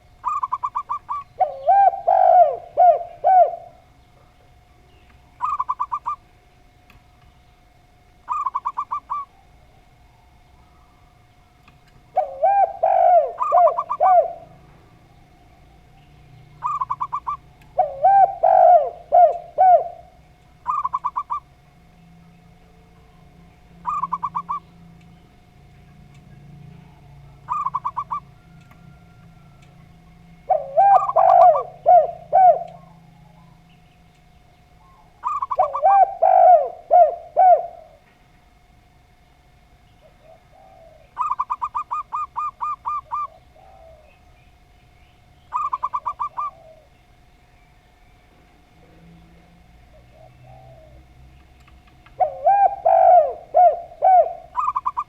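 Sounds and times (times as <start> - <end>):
dove deep cooing: 0.0 - 6.8, 7.6 - 34.1, 34.7 - 38.1, 40.0 - 47.3, 48.7 - 55.0
dove trilled cooing: 0.0 - 6.8, 7.6 - 39.2, 39.8 - 47.3, 48.7 - 55.0.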